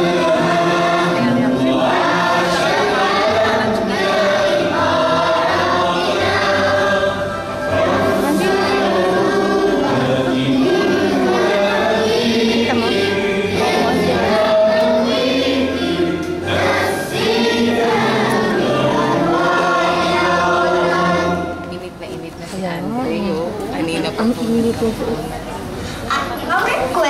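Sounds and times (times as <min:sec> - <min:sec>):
choir singing held notes: 0:00.0 - 0:21.8
low accompaniment: 0:00.0 - 0:25.8.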